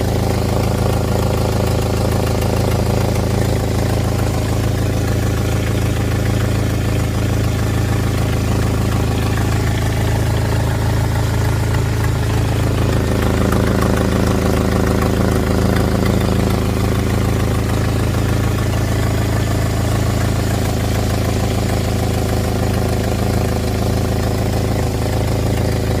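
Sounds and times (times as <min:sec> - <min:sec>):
engine idling with exhaust leak: 0:00.0 - 0:26.0.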